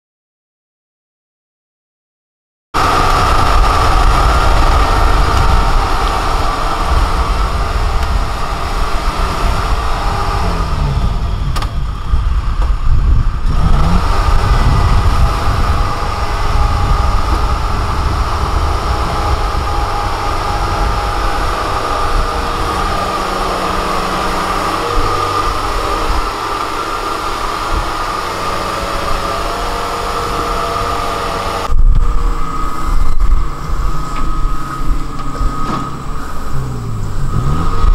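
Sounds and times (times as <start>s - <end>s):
combine harvester running: 2.8s - 37.9s.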